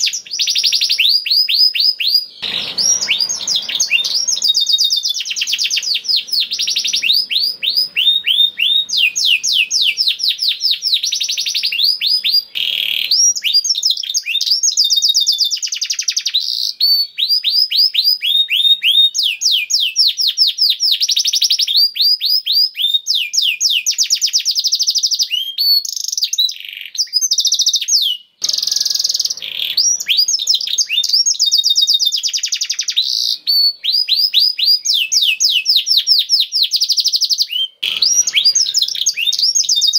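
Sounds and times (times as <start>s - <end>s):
canary singing rolling trills: 0.0s - 22.1s, 26.2s - 39.9s.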